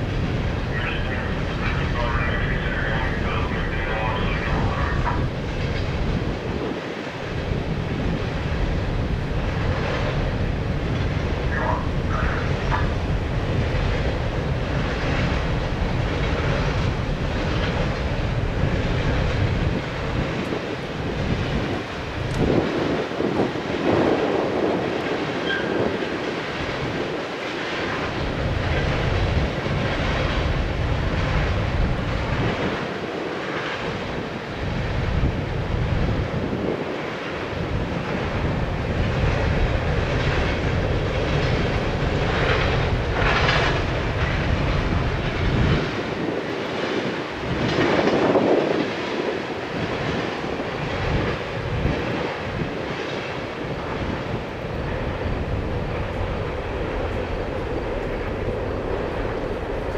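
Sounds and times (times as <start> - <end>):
freight train wheels on rails: 0.0 - 59.9
wind buffeting microphone: 0.0 - 59.9.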